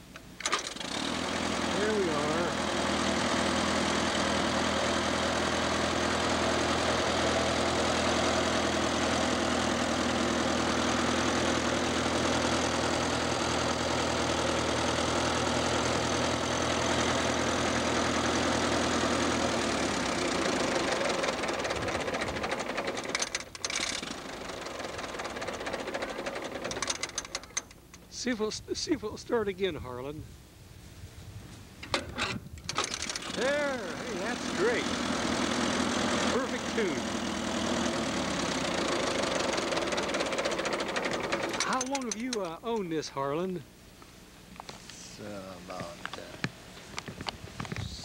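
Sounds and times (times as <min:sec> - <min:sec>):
tractor engine running: 0:00.0 - 0:29.0, 0:31.8 - 0:43.1.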